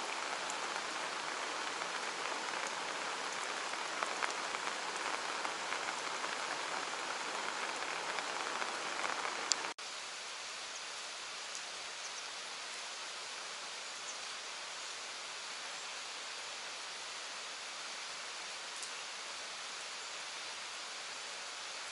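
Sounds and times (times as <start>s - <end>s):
quiet rain hiss: 0.0s - 21.9s
steady rain falling: 0.0s - 21.9s.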